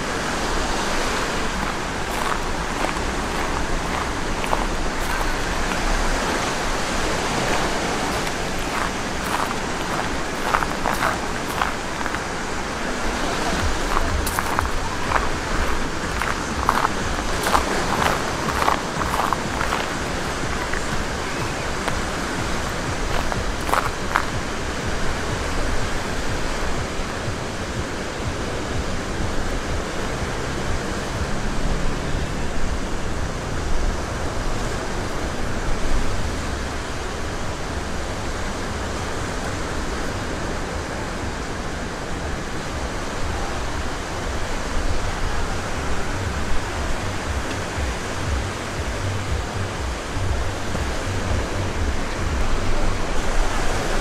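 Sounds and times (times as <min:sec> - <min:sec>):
sea surf breaking on beach: 0:00.0 - 0:54.0.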